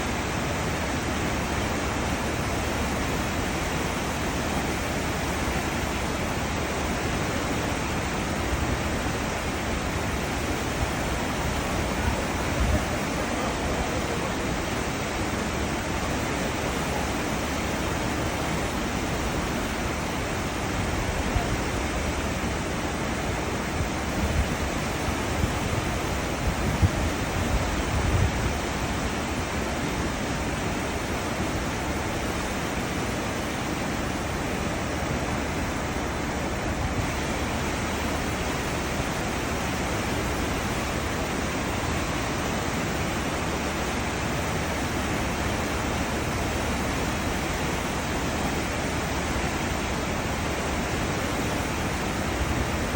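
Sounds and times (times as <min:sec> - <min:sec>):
churning ship wake water: 0:00.0 - 0:52.9.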